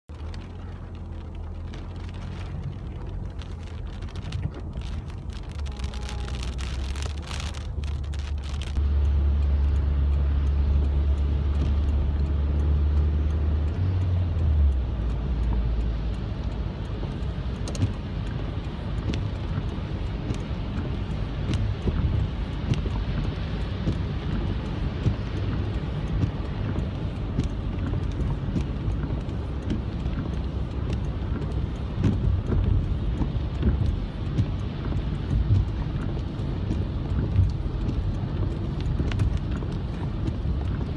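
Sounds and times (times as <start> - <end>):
car engine and tyres rumbling: 0.0 - 40.9
raindrops ticking on car: 0.1 - 40.9.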